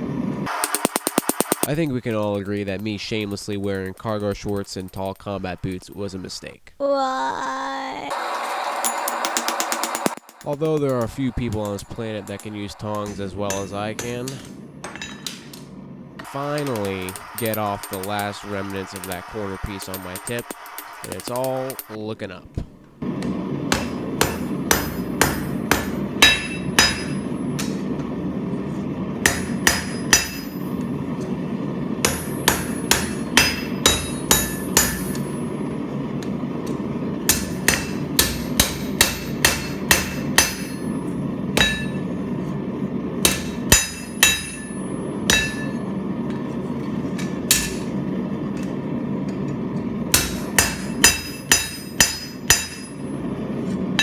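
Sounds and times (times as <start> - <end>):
hammer striking hot steel: 0.0 - 6.2, 8.1 - 22.0, 23.0 - 54.0.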